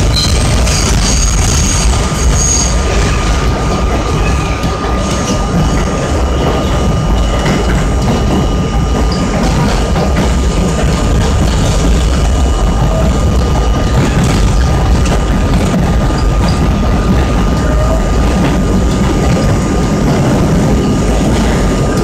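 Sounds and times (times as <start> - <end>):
subway wheels rumbling on rail: 0.0 - 22.0.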